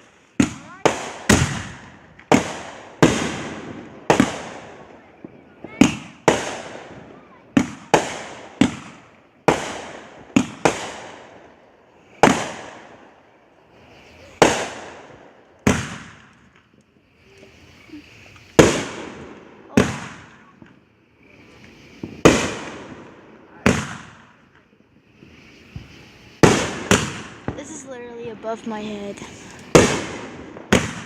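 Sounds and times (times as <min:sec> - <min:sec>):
faint fireworks crackle: 0:00.0 - 0:31.0
fireworks bangs with echo: 0:00.0 - 0:31.0.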